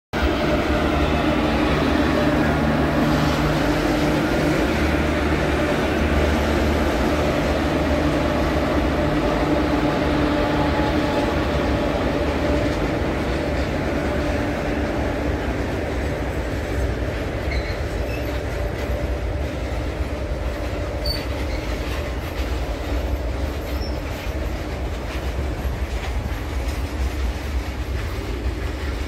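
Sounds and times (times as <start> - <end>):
freight train wheels rumbling: 0.1 - 29.0
locomotive hum: 0.2 - 29.0.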